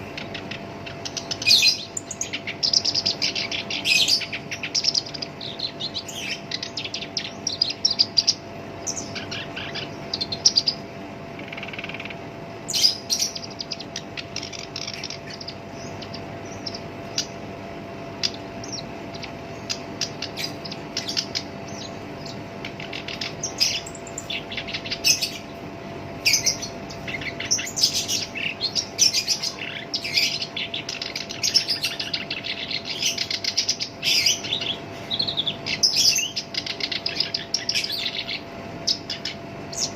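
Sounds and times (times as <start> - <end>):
faint steady hum: 0.0 - 39.9
reed warbler singing: 0.0 - 39.9.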